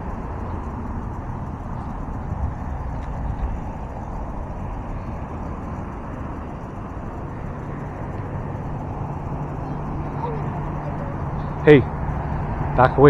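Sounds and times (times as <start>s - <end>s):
low engine hum: 0.0s - 13.0s
traffic rumble: 0.0s - 13.0s.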